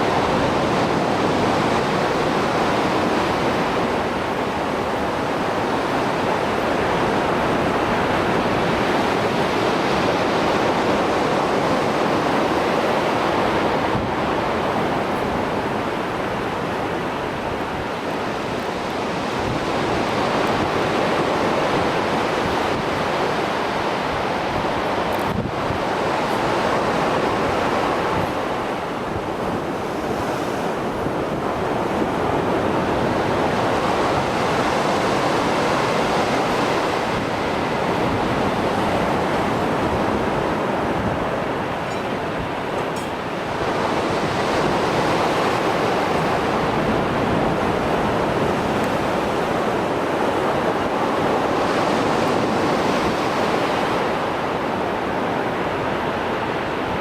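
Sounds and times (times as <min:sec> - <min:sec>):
surf waves breaking: 0:00.0 - 0:57.0.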